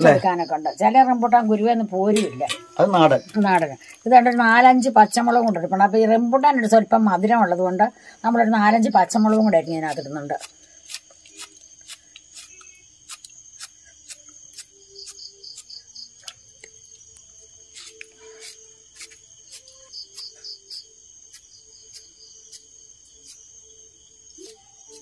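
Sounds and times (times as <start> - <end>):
insect chirring: 0.0 - 25.0.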